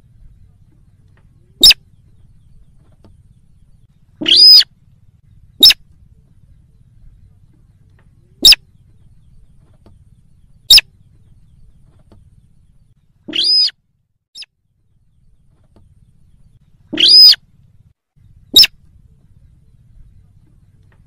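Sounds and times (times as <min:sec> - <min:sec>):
rail bird calls: 0:00.0 - 0:21.0.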